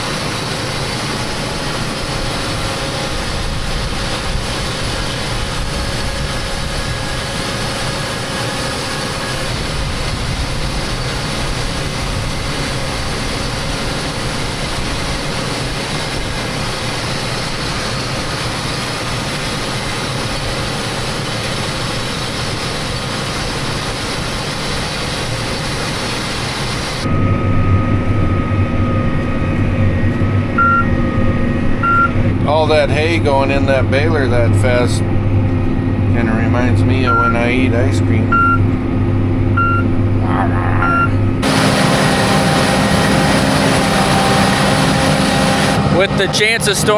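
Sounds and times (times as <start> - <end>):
heavy engine drone: 0.0 - 46.9
tractor and baler droning: 0.0 - 46.9.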